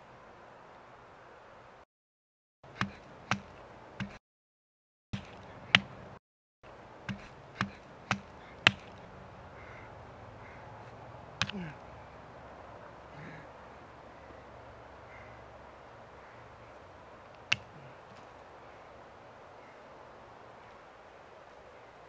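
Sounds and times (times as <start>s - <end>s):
faint outdoor hiss: 0.0s - 1.8s, 2.7s - 4.2s, 5.2s - 22.0s.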